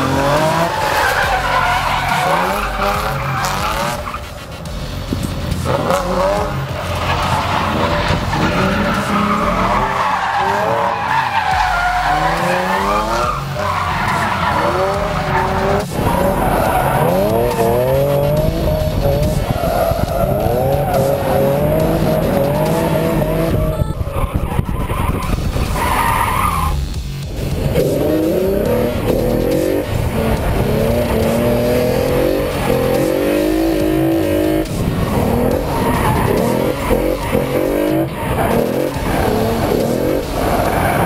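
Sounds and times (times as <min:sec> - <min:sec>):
car engine revving: 0:00.0 - 0:41.0
tyres squealing and skidding: 0:00.0 - 0:41.0.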